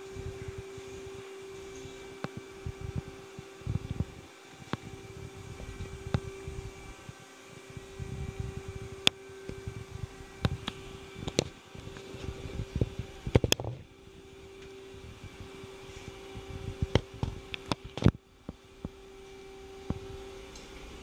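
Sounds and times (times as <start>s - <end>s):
lathe machine humming: 0.0s - 21.0s.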